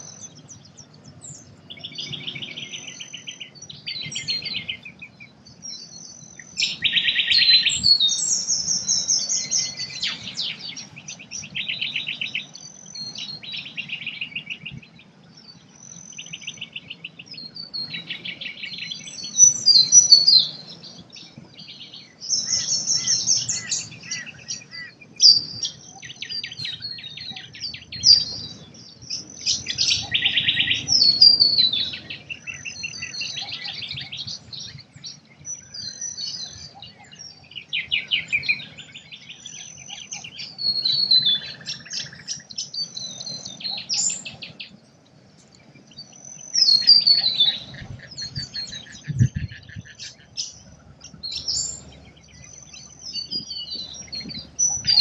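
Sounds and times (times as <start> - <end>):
wild birds singing and calling: 0.0 - 55.0.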